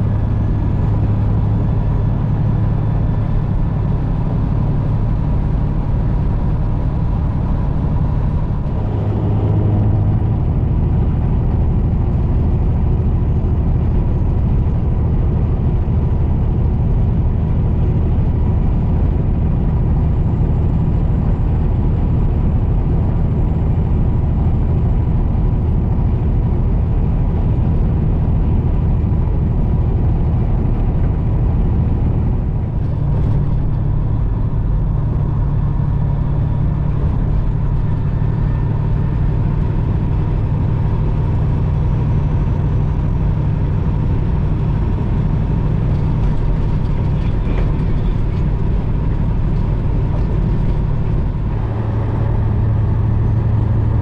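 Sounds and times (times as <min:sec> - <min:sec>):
road and tyre noise: 0:00.0 - 0:54.0
truck diesel engine cruising: 0:00.0 - 0:54.0.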